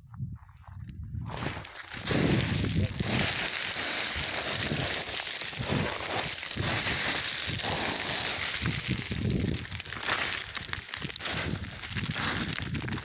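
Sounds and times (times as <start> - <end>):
boots crunching on scree: 1.3 - 13.0
gravelly hiss: 1.3 - 13.0.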